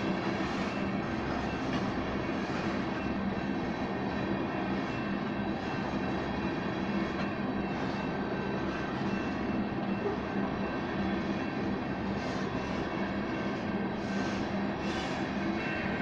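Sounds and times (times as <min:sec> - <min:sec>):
faint steady tones: 0:00.0 - 0:16.0
train wheels rumbling on rails: 0:00.0 - 0:16.0.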